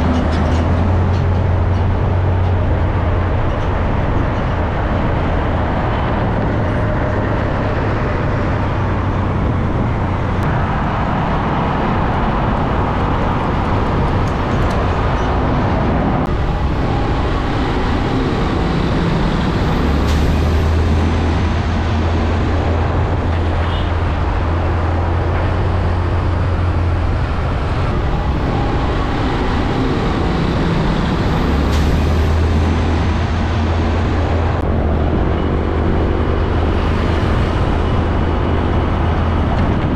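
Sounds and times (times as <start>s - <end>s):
heavy road traffic passing: 0.0s - 39.9s
low truck engine drone: 0.0s - 39.9s.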